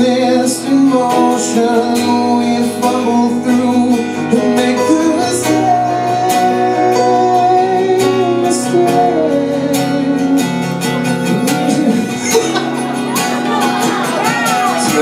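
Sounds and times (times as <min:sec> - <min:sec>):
man singing: 0:00.0 - 0:12.9, 0:14.4 - 0:15.0
live band music: 0:00.0 - 0:15.0
strummed guitar: 0:00.0 - 0:15.0.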